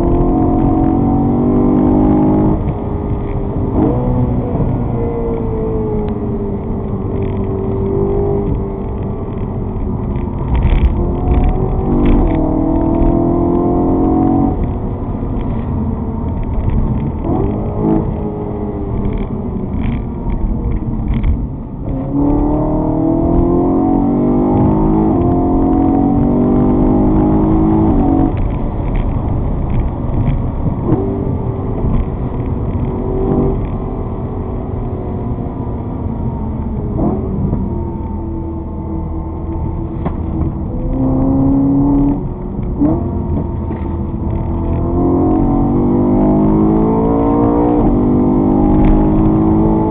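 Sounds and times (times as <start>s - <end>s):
low road rumble: 0.0s - 49.9s
vehicle engine revving: 0.0s - 49.9s.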